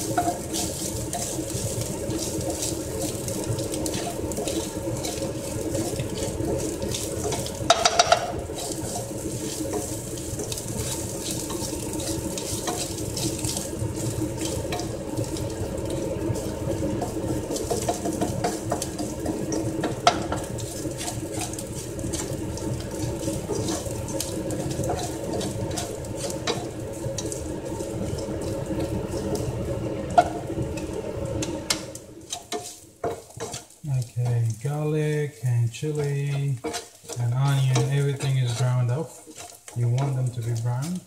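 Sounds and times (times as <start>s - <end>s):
range hood fan whoosh and hum: 0.0s - 39.6s.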